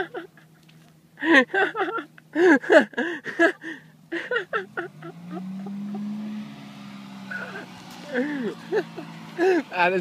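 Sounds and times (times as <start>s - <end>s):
person laughing: 0.0s - 6.2s, 7.3s - 9.7s
golf cart motor humming: 1.5s - 10.0s.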